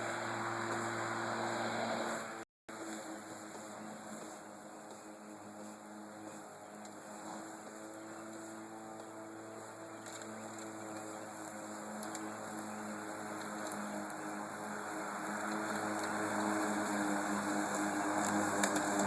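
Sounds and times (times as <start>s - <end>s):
electric lawn mower humming: 0.0s - 19.0s.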